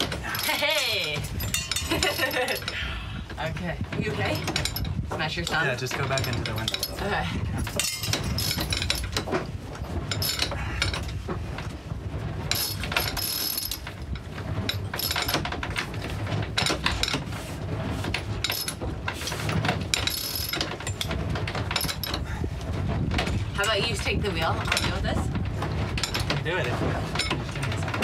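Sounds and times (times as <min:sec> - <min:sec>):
winch ratcheting clicks: 0:00.0 - 0:11.7, 0:12.4 - 0:17.3, 0:18.1 - 0:28.0.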